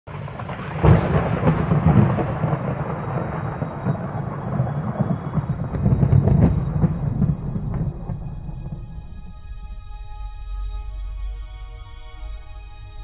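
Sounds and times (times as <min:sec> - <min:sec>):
deep crackling thunder rumble: 0:00.1 - 0:11.1.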